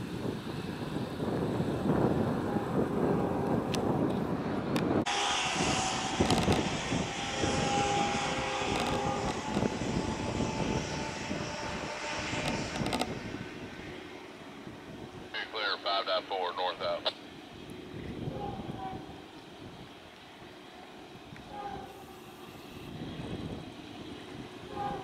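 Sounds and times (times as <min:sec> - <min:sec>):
diesel locomotives droning: 0:00.0 - 0:25.0
faint steady whine: 0:00.0 - 0:25.0
low engine rumble: 0:00.0 - 0:25.0.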